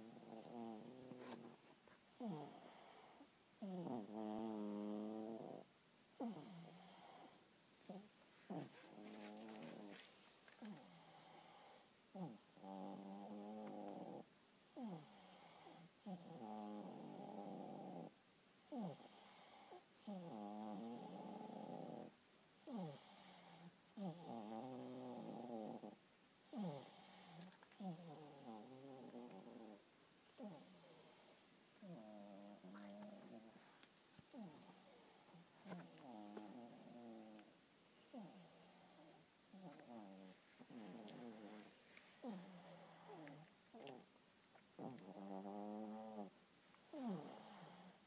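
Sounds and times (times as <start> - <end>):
small dog snoring: 0.0 - 44.1, 44.8 - 48.0.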